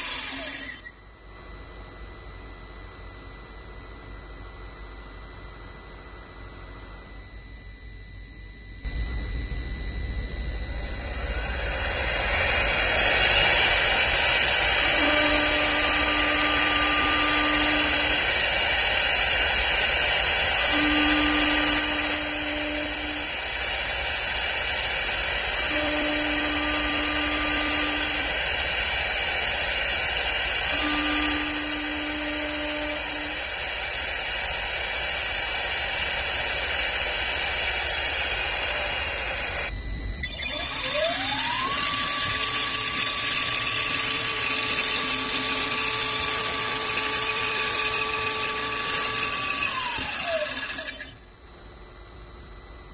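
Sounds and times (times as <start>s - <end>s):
lathe machining noise: 0.0s - 0.9s, 8.9s - 51.3s
rising whine: 0.0s - 1.0s, 3.6s - 52.9s.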